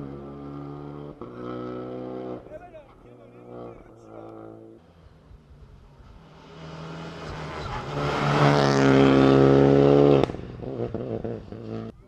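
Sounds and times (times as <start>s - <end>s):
rally car engine at high revs: 0.0s - 2.5s, 3.2s - 5.2s, 5.8s - 11.9s.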